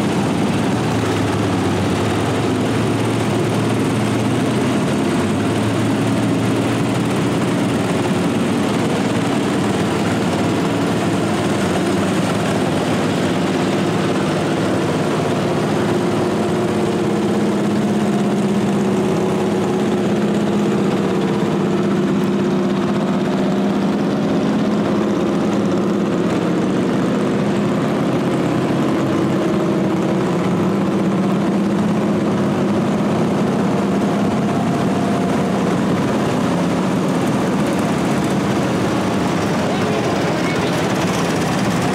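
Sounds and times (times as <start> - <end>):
garden tractor engines droning: 0.0 - 41.9.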